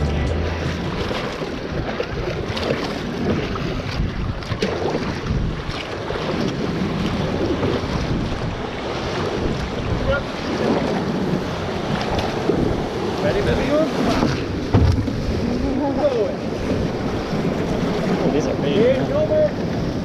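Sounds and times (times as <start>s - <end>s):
water splashing around canoe: 0.0s - 20.0s
wind buffeting microphone: 0.0s - 20.0s.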